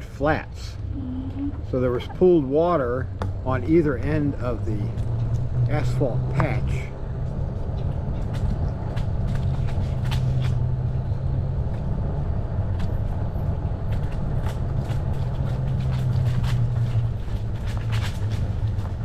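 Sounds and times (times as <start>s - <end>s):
bike tyre and wind rumble: 0.0s - 19.0s.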